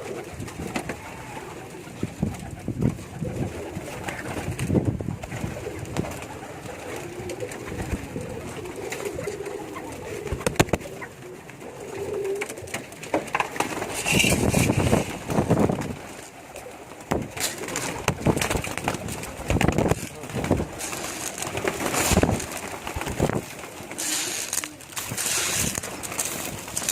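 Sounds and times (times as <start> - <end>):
pigeons cooing: 0.0 - 26.9
rustling bursts: 0.0 - 26.9.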